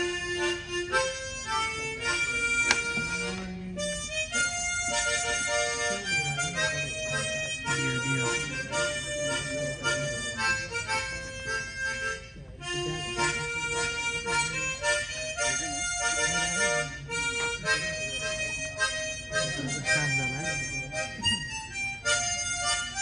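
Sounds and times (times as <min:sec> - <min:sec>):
harmonica playing slow melody: 0:00.0 - 0:23.0.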